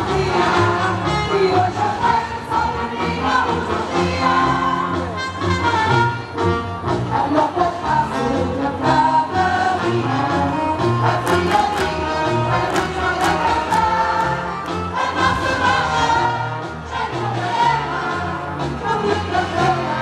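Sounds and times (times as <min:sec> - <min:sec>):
group singing in chorus: 0:00.0 - 0:05.0, 0:07.3 - 0:20.0
band playing: 0:00.0 - 0:20.0.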